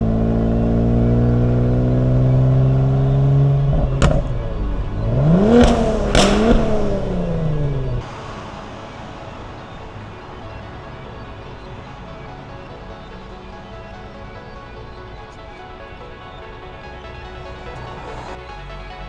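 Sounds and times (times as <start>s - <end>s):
car exhaust droning: 0.0s - 18.4s
exhaust pops and cracks: 1.1s - 18.4s.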